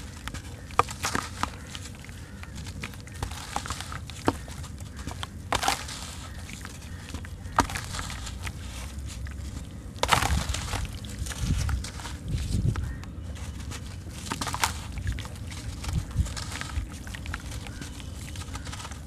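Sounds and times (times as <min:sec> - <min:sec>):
water splashing in basin: 0:00.0 - 0:19.0
wet cement crumbling by hand: 0:00.0 - 0:19.0.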